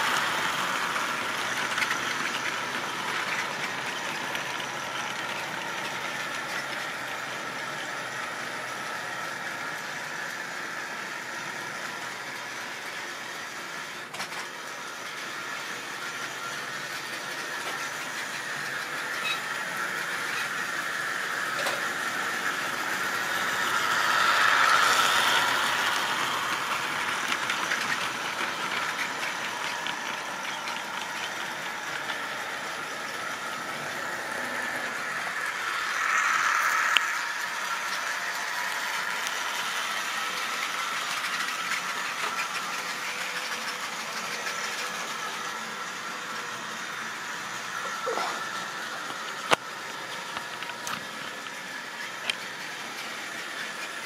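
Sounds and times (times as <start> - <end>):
model train motors humming: 0.0 - 54.0
wheels rattling over rails: 0.0 - 54.0.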